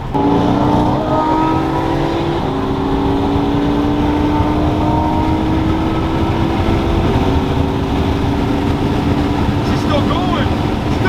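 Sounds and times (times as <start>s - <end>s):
road and wind rumble: 0.0s - 11.0s
sports car engine at speed: 0.0s - 11.0s.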